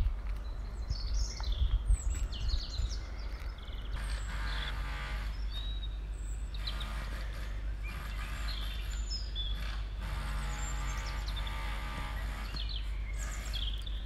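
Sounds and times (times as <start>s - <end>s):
humming drone: 0.0s - 14.0s
small birds chirping: 0.0s - 14.0s
steady low rumble: 0.0s - 14.0s.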